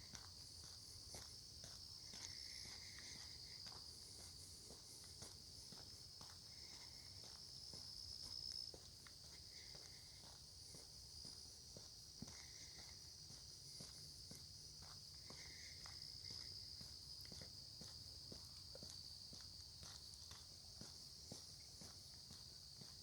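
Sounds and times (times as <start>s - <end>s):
footsteps on a lane: 0.0s - 23.0s.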